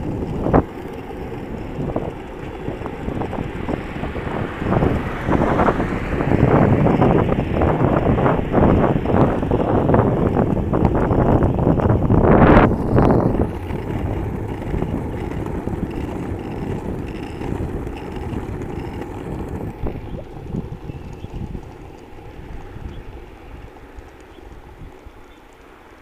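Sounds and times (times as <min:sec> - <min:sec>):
wheels rolling on asphalt: 0:00.0 - 0:26.0
wind buffeting microphone: 0:00.0 - 0:26.0.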